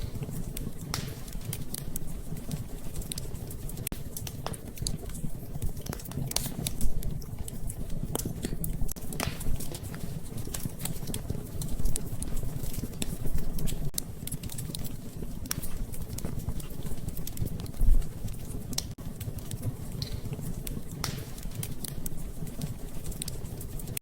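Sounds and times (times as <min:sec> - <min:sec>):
fire popping: 0:00.0 - 0:24.0
low fire rumble: 0:00.0 - 0:24.0
wood fire crackling: 0:00.0 - 0:24.0.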